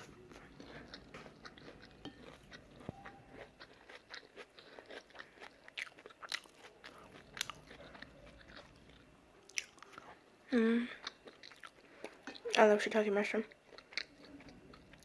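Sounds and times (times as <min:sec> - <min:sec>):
person chewing: 0:00.0 - 0:10.2, 0:11.0 - 0:12.6, 0:13.4 - 0:15.0.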